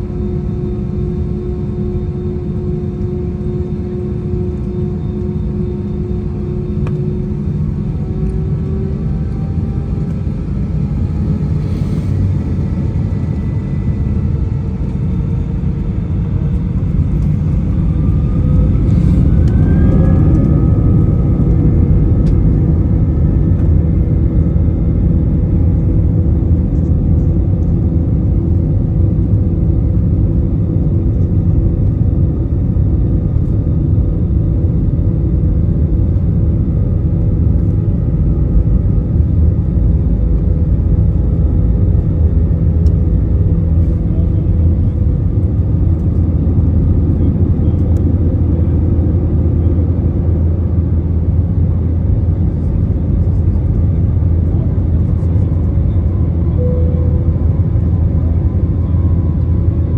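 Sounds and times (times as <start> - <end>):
engine whine rising: 3.0 - 59.9
jet engines roaring: 6.3 - 59.9.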